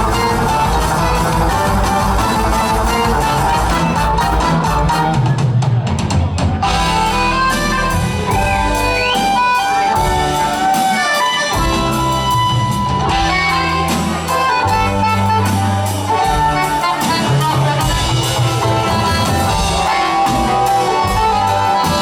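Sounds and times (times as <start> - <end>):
live band instrumental: 0.0 - 22.0.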